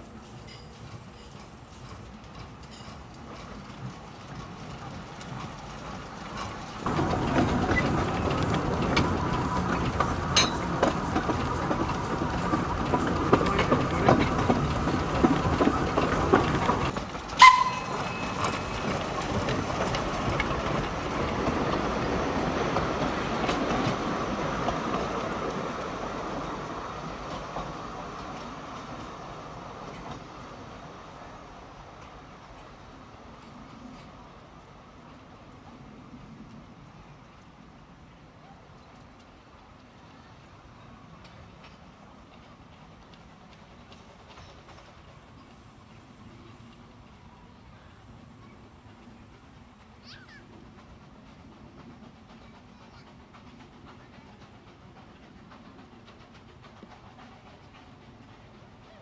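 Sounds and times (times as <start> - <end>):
train wheels clicking over rail joints: 0.1 - 34.2, 38.7 - 59.0.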